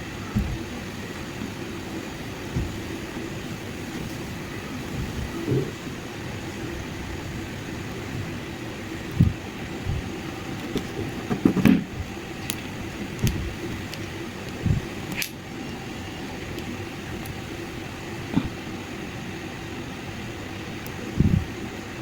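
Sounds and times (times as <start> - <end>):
fan hum: 0.0 - 22.0.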